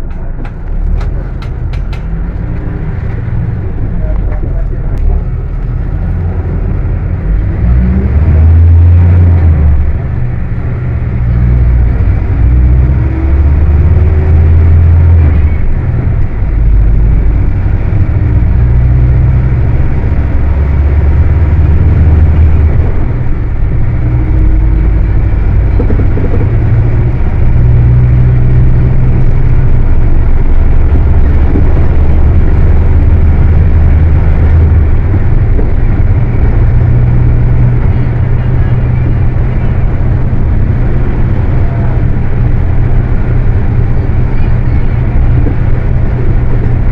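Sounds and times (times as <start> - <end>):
diesel bus engine revving: 0.0 - 46.9.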